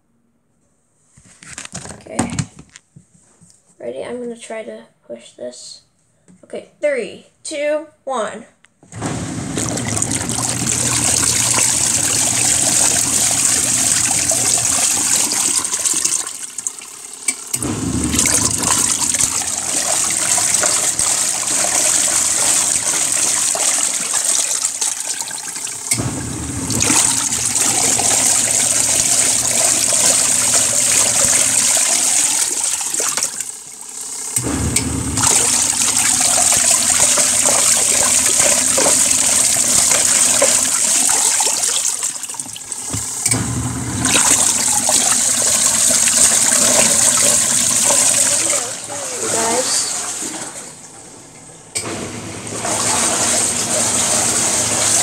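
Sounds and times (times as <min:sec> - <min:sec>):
washing machine motor humming: 0:08.8 - 0:55.0
water churning and sloshing: 0:08.9 - 0:55.0.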